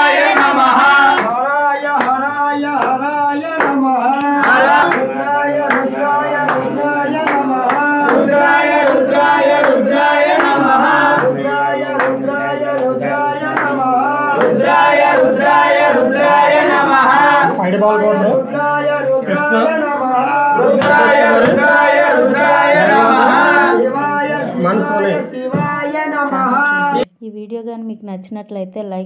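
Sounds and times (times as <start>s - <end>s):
regular beat: 0.0s - 18.2s, 20.6s - 25.9s
men singing a devotional chant: 0.0s - 27.1s.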